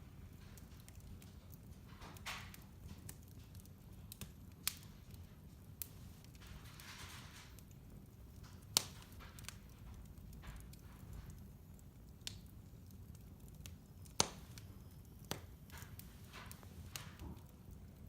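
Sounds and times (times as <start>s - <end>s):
fire popping and crackling: 0.0s - 18.0s
wood fire rumbling: 0.0s - 18.0s.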